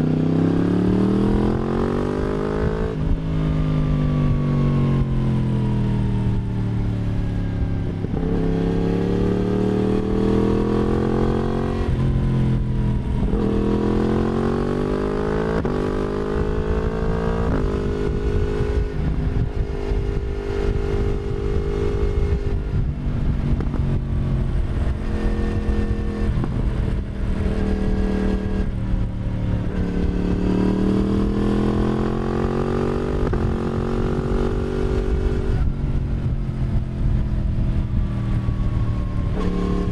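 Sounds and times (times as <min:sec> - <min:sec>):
motorcycle exhaust revving: 0:00.0 - 0:05.4, 0:07.8 - 0:39.9.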